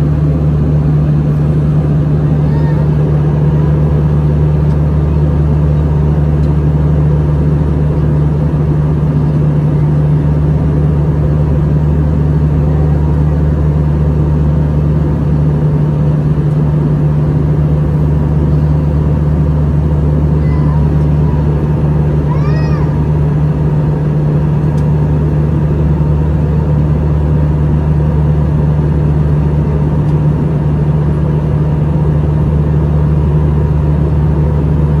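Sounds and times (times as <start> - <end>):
low jet engine drone: 0.0 - 35.0.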